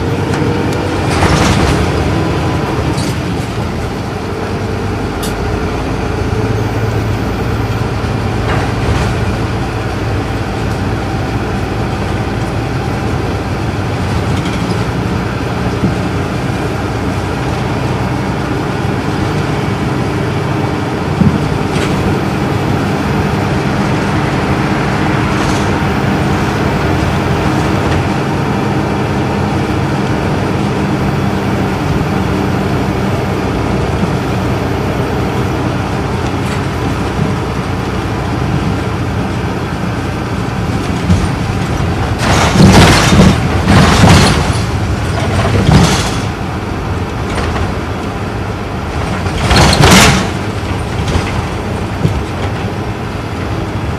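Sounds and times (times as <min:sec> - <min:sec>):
bus diesel engine running: 0:00.0 - 0:53.9
road and tyre noise: 0:00.0 - 0:53.9.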